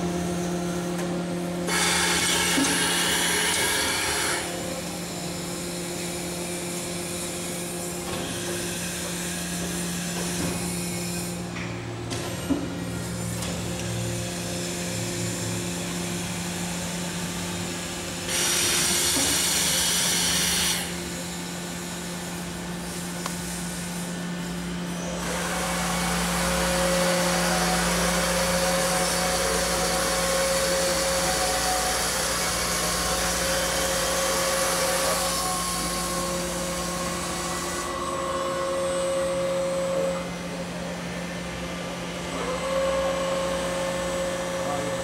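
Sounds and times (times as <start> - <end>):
boring mill motor hum: 0.0 - 45.0.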